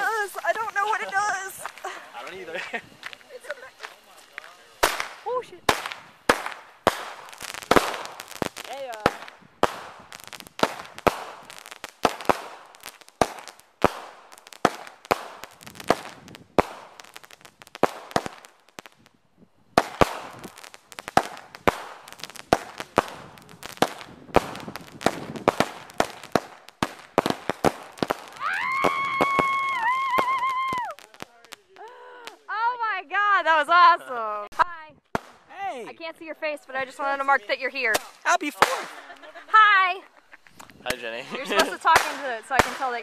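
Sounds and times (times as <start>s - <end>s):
firework bangs and crackles: 0.0s - 43.0s.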